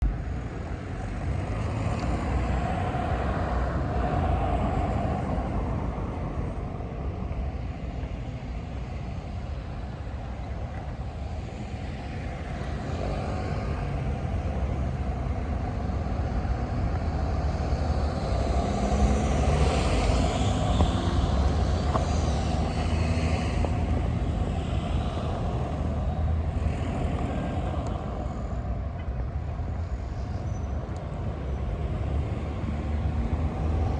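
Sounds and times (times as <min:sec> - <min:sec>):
motor traffic rumble: 0:00.0 - 0:33.9.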